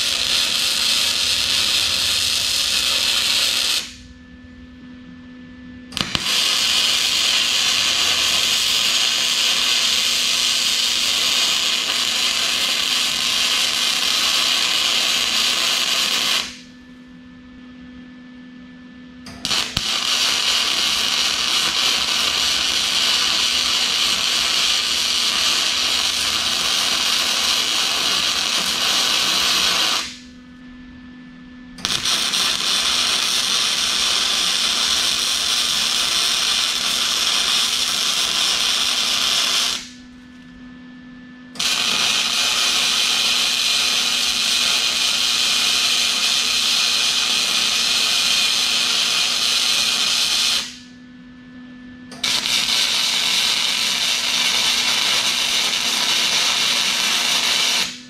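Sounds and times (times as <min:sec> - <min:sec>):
arc welding hiss: 0:00.0 - 0:04.0, 0:06.0 - 0:16.7, 0:19.3 - 0:30.3, 0:31.8 - 0:40.0, 0:41.6 - 0:50.9, 0:52.2 - 0:58.0
steady low hum: 0:00.0 - 0:58.0.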